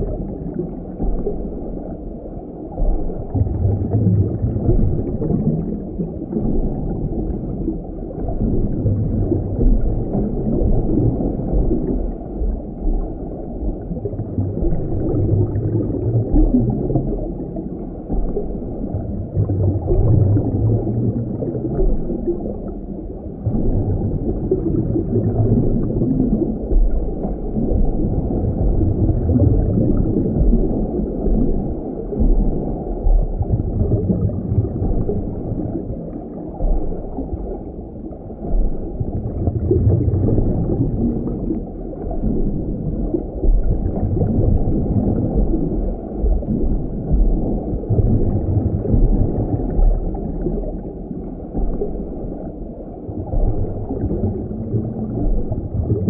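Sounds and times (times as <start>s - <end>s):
underwater rumbling wash: 0.0s - 56.0s.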